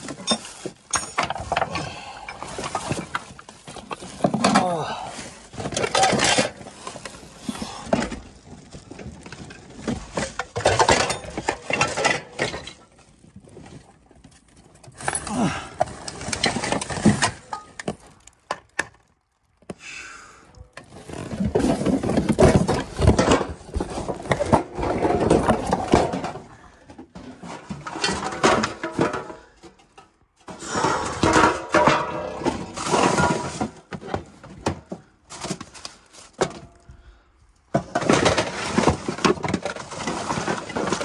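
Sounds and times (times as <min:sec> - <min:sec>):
rummaging through junk: 0:00.0 - 0:19.7, 0:20.6 - 0:41.0.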